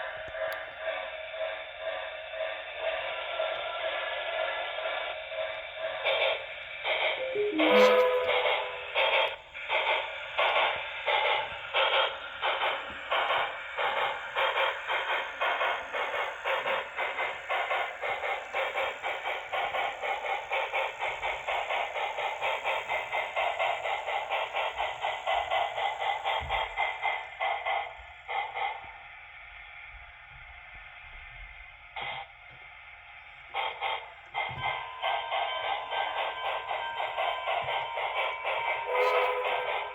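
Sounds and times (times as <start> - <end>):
model steam locomotive chuffs: 0.0 - 39.9.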